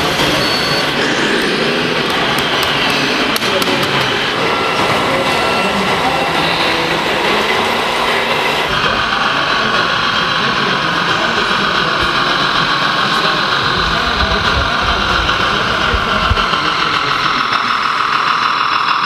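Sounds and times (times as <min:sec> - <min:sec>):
crowd talking: 0:00.0 - 0:19.0
model truck engine hum: 0:00.0 - 0:19.0
model trucks running: 0:00.0 - 0:19.0.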